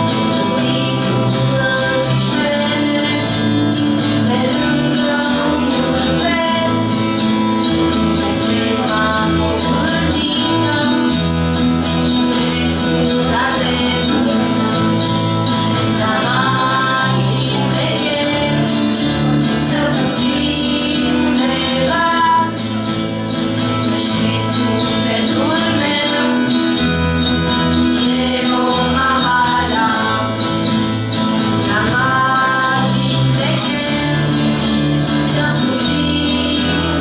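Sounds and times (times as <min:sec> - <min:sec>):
acoustic guitars strummed: 0:00.0 - 0:37.0
women singing: 0:00.0 - 0:37.0.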